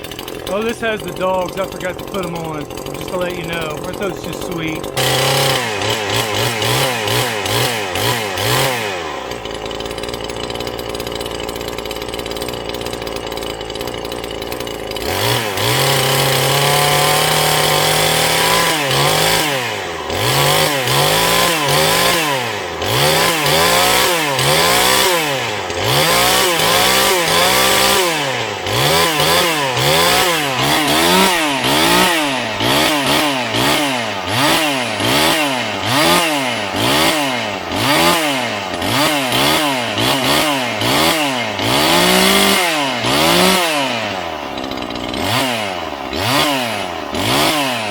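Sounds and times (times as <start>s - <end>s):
chainsaw idling and revving: 0.0s - 47.9s.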